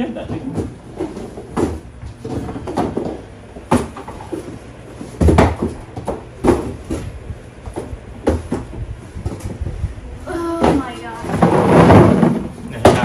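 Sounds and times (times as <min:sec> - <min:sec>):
cardboard boxes knocking and scraping: 0:00.3 - 0:09.6, 0:10.6 - 0:13.0.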